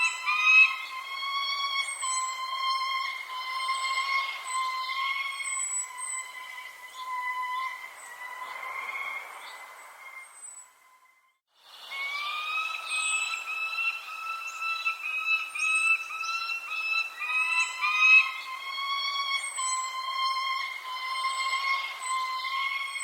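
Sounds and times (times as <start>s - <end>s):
birds chirping: 0.0s - 23.0s
steady whistling tone: 0.0s - 23.0s.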